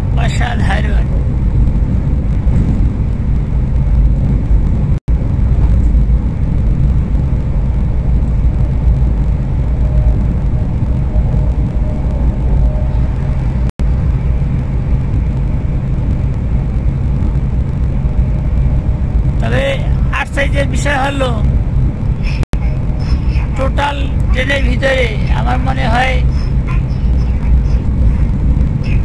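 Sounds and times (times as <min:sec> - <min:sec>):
train interior rumble: 0:00.0 - 0:29.0.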